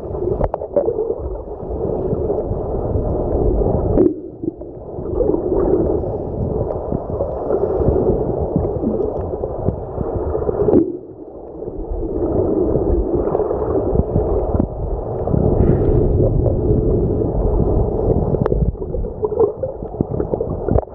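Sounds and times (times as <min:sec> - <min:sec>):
muffled underwater wave rush: 0:00.0 - 0:20.9.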